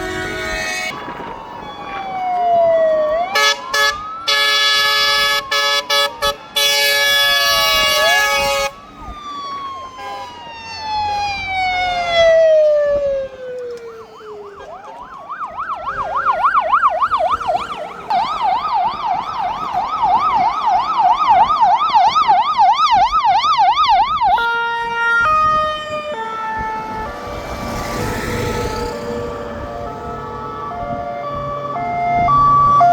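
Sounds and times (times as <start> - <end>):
fire engine sirens: 0.0 - 32.9.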